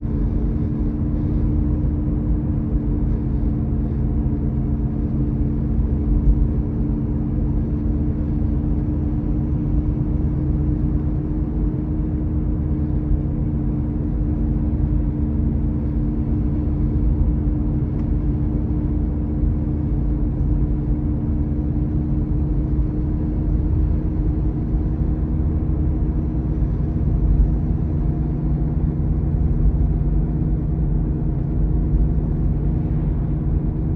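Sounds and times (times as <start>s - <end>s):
low droning rumble: 0.0s - 33.9s
steady hum tones: 0.0s - 33.9s.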